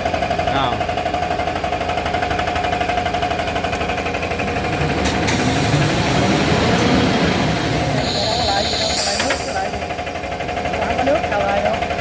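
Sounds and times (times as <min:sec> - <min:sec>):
machine hum and clatter: 0:00.0 - 0:12.0.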